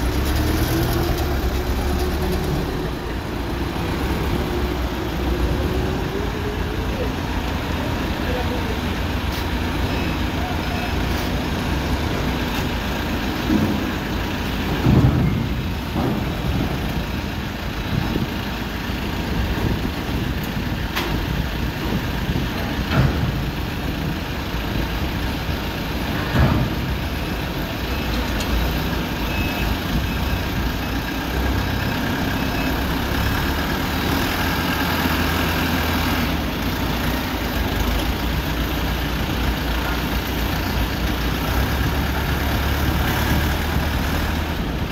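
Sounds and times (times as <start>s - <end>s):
tractor engine rumbling: 0.0s - 44.9s.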